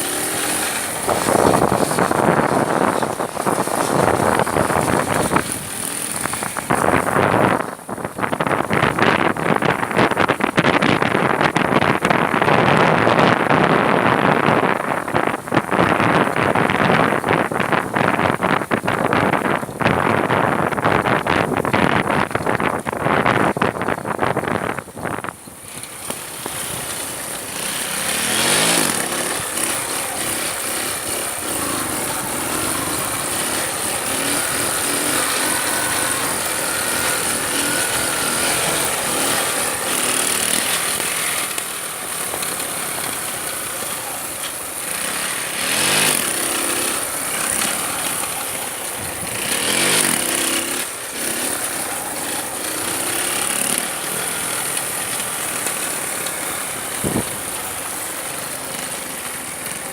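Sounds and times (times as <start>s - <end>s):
wind noise on microphone: 0.0s - 59.2s
motorcycle engine revving: 0.0s - 59.9s.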